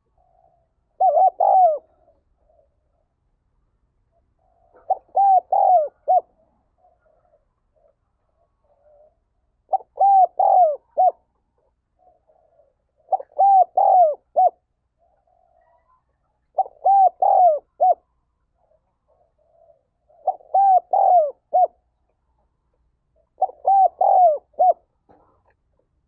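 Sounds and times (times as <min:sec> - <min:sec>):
dove cooing: 0:00.0 - 0:03.2, 0:04.1 - 0:22.0, 0:23.1 - 0:25.4.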